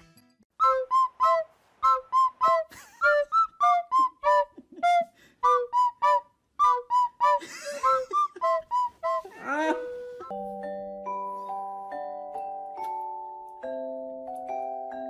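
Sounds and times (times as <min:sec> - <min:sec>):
bouncy melody of high notes: 0:00.6 - 0:15.0.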